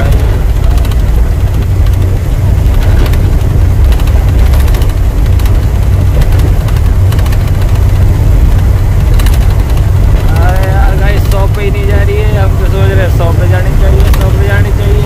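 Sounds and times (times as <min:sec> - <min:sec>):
truck engine rumble from cab: 0:00.0 - 0:15.0.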